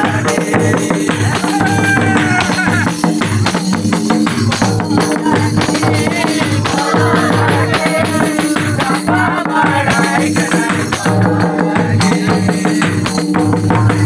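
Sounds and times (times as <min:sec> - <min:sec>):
group singing: 0:00.0 - 0:03.1, 0:04.6 - 0:13.2
drums and percussion beat: 0:00.0 - 0:14.0.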